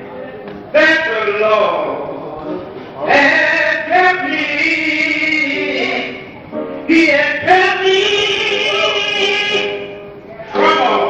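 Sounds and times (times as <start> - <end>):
man singing gospel unaccompanied: 0.7 - 2.2, 2.9 - 11.0.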